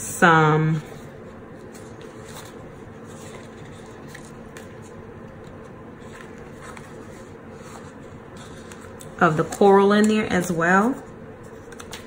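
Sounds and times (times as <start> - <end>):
low room hum: 0.0 - 12.0
sticker sheets rustling: 1.6 - 12.0.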